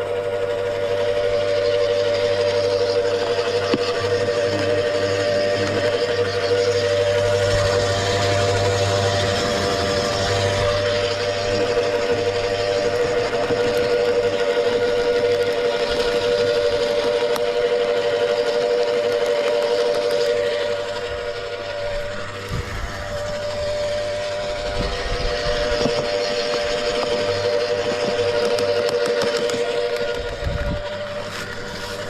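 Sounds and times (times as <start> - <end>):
wood chipper whining: 0.0 - 32.0.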